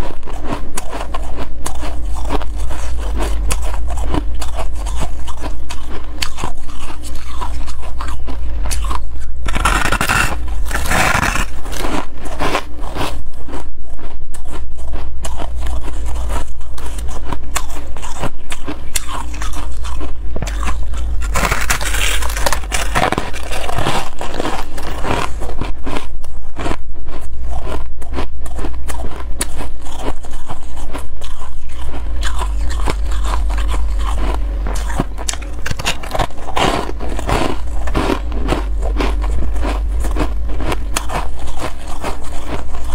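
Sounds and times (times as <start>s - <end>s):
ice crunching while chewed: 0.0s - 42.9s
steady low hum: 0.0s - 42.9s.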